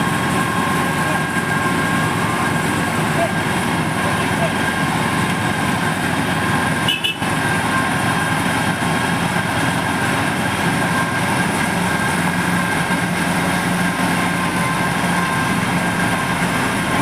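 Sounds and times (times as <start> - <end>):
diesel engine hum: 0.0 - 17.0
steady high whine: 0.0 - 17.0.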